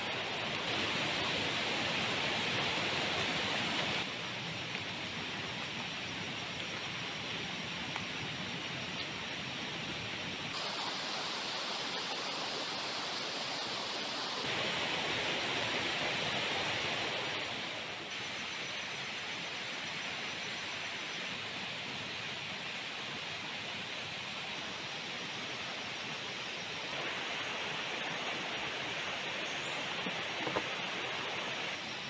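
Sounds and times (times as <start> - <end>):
heavy rain hissing: 0.0 - 6.4, 10.5 - 32.0.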